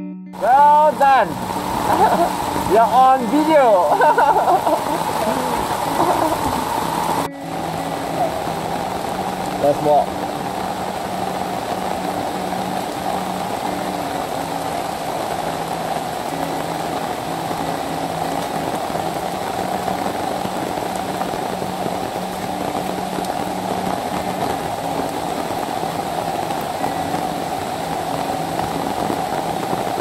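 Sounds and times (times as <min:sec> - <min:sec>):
heavy rain on forest: 0:00.4 - 0:30.0
stream rushing: 0:00.4 - 0:30.0.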